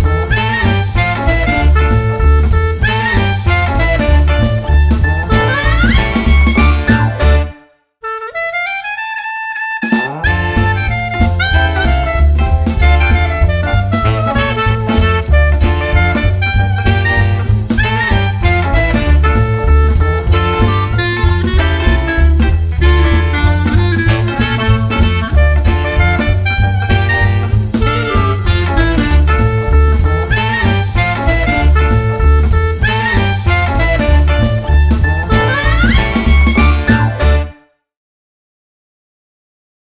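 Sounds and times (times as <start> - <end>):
jazz music with saxophone and brass: 0.0 - 37.6.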